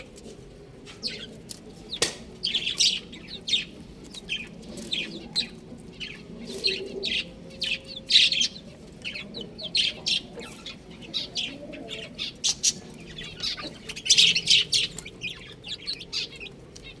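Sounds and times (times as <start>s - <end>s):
chicks chirping: 0.8s - 17.0s.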